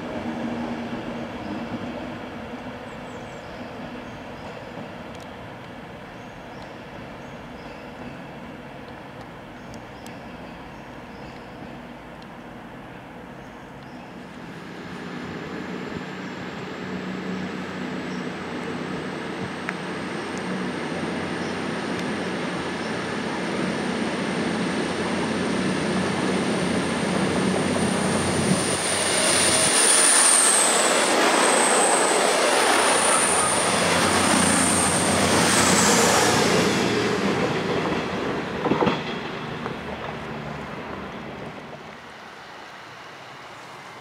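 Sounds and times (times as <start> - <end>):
train engine and wheel noise: 0.0 - 44.0.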